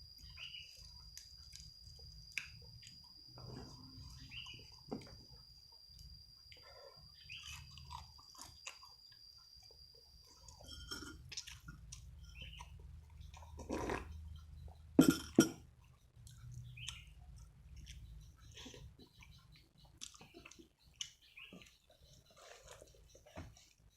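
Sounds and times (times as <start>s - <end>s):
person chewing food: 0.1s - 15.0s, 15.6s - 23.9s.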